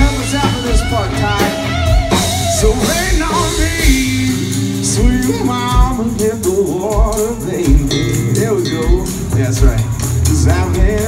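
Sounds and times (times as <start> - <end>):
acoustic guitar: 0.0 - 11.0
drum kit: 0.0 - 11.0
person singing: 0.0 - 11.0.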